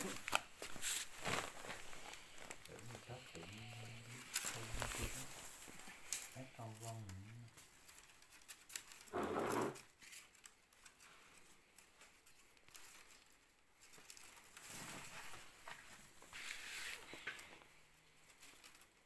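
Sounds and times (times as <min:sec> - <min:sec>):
bamboo strips rustling and clicking: 0:00.0 - 0:19.0.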